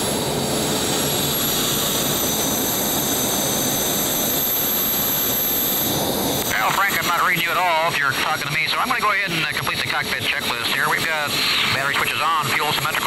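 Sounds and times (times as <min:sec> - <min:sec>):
turbojet engine whine and roar: 0:00.0 - 0:13.0.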